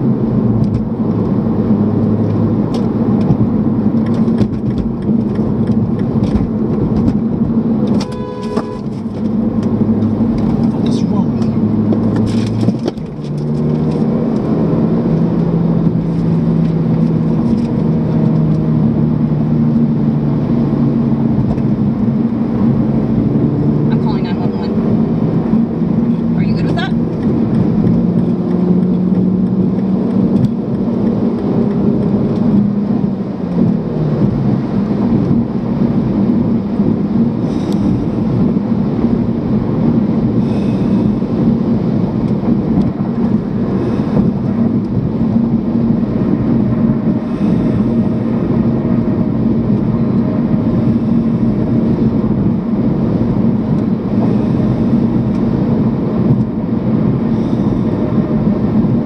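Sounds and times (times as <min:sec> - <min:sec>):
low engine drone: 0:00.0 - 0:59.0
tyre and road rumble: 0:00.0 - 0:59.0.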